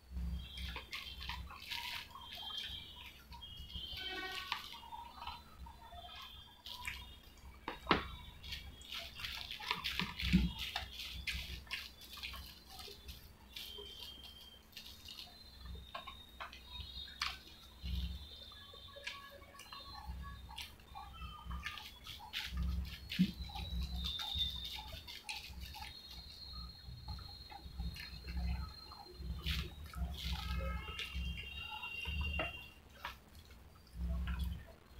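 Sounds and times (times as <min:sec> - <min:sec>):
chewing and wet mouth sounds: 0:00.1 - 0:34.9.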